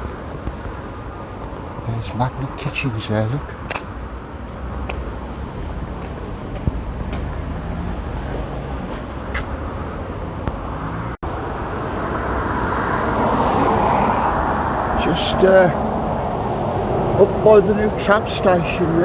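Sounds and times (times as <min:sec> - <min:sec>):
passing cars traffic noise: 0:00.0 - 0:19.0.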